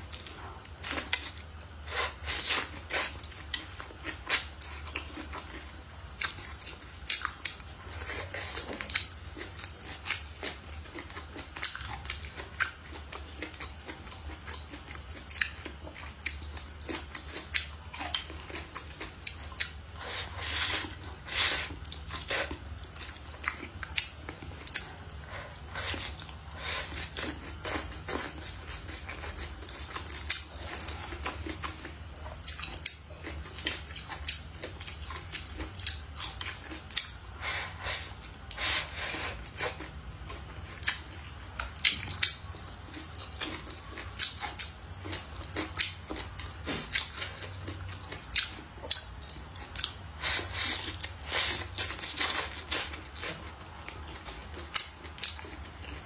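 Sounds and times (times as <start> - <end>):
steady low hum: 0.0 - 56.0
close chewing and biting: 0.1 - 56.0.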